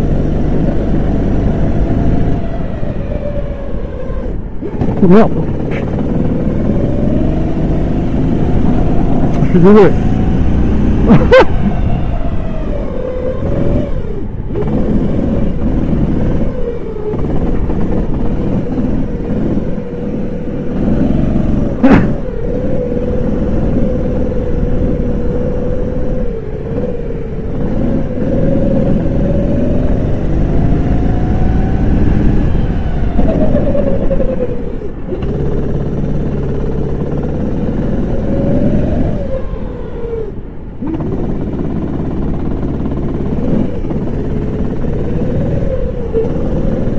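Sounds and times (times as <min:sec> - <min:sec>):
kart engine running hard: 0:00.0 - 0:46.9.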